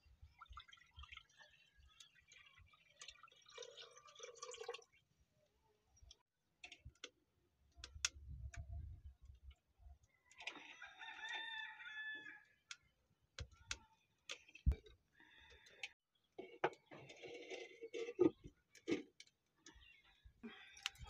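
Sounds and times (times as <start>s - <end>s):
faint cooking clicks and clinks: 0.0s - 21.0s.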